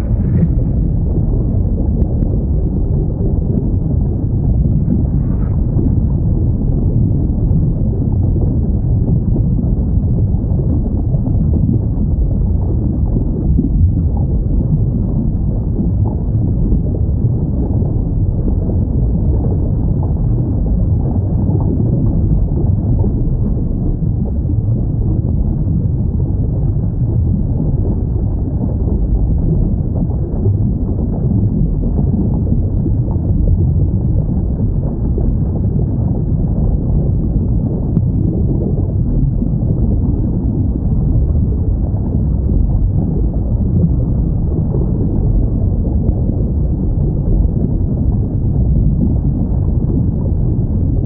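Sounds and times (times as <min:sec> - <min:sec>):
deep underwater rumble: 0:00.0 - 0:51.0.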